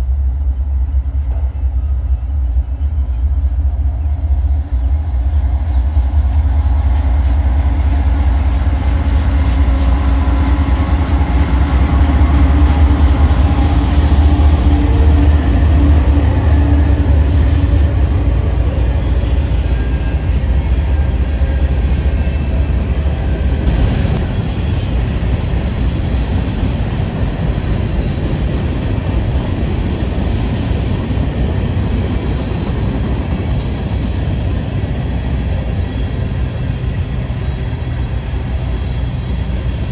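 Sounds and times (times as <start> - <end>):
diesel locomotive engine rumble: 0.0 - 39.9
train wheels on rail: 0.0 - 39.9.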